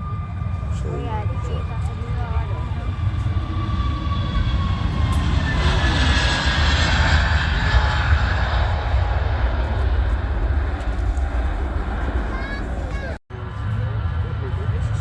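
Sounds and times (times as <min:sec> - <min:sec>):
faint engine whine: 0:00.0 - 0:15.0
jet airliner passing: 0:00.0 - 0:15.0.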